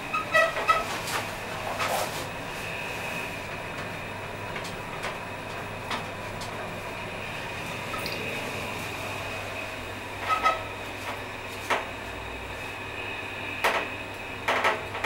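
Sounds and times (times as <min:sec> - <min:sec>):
elevator hum with faint whine: 0:00.0 - 0:15.0.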